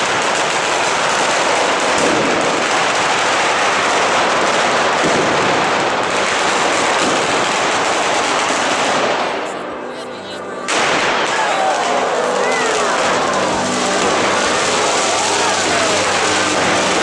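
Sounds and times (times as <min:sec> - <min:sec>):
firecrackers banging rapidly: 0:00.0 - 0:17.0.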